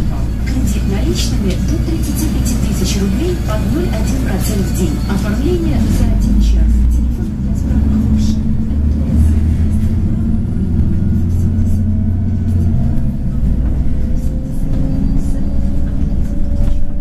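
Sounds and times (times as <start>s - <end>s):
bus drivetrain whine: 0.0s - 17.0s
bus engine rumbling: 0.0s - 17.0s.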